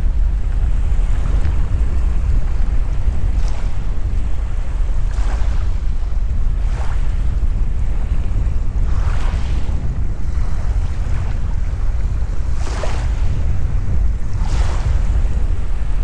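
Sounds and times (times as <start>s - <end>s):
small waves washing onto sand: 0.0s - 16.0s
wind buffeting microphone: 0.0s - 16.0s.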